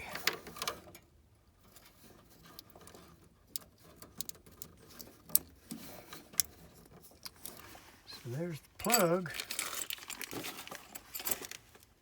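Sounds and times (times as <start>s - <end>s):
light rattling and handling noise: 0.0s - 12.0s.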